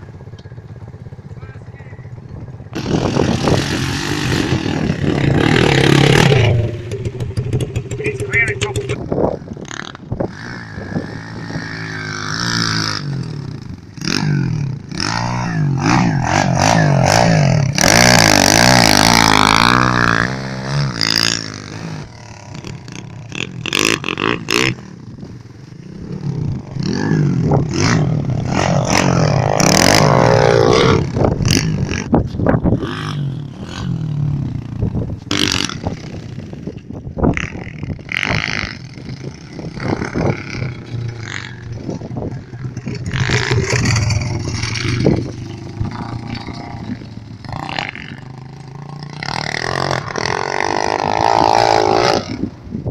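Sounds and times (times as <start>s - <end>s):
pit bike engine revving: 2.7s - 52.9s.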